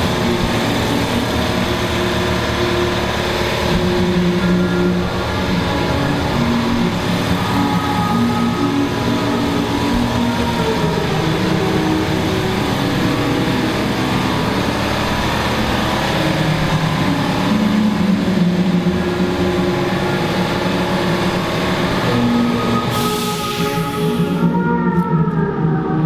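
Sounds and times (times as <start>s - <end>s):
air compressor running: 0.0s - 24.4s.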